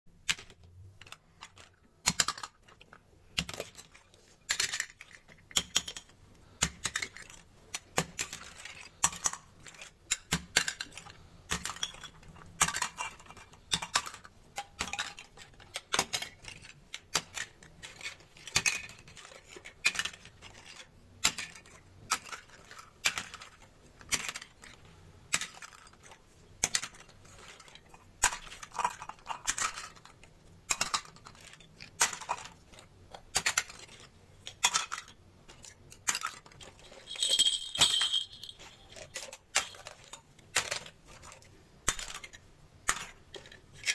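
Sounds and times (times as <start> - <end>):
plastic toy clicks and clacks: 0.2 - 43.9.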